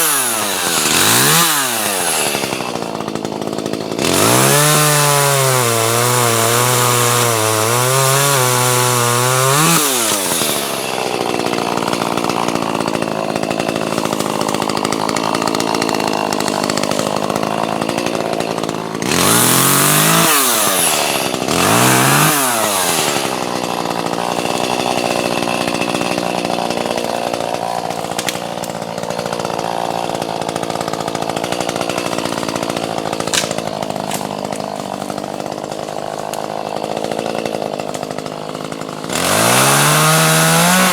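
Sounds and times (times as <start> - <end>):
chainsaw cutting logs: 0.0 - 40.9.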